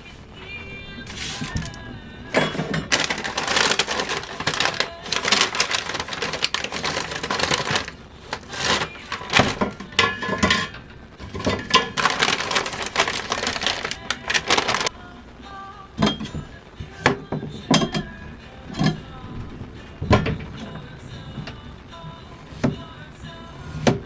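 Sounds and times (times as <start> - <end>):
crispbread crackling and crunching: 0.0 - 24.0.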